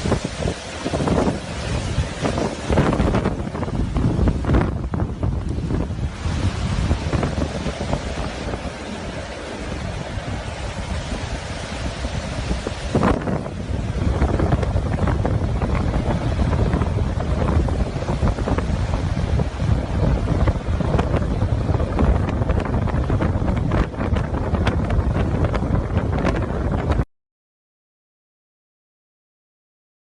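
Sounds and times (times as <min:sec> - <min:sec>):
waves washing: 0:00.0 - 0:27.0
wind buffeting microphone: 0:00.0 - 0:27.1.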